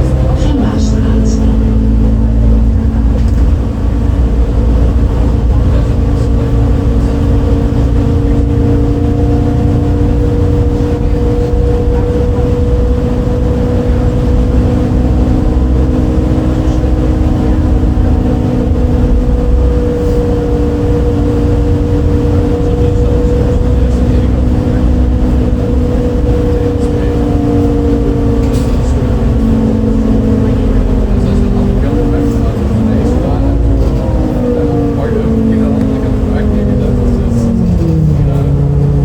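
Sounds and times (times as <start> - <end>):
bus diesel engine droning: 0.0 - 39.0.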